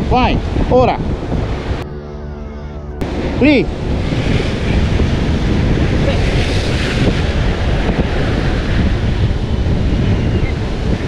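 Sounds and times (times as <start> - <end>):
sea surf washing: 0.0 - 1.8, 3.0 - 11.0
wind buffeting microphone: 0.0 - 1.8, 3.0 - 11.0.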